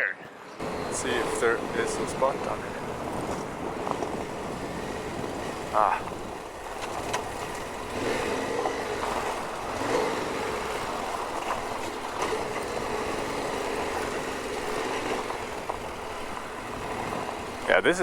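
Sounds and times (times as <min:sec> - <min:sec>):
gravel road noise: 0:00.0 - 0:18.0
motorcycle engine running: 0:00.6 - 0:18.0.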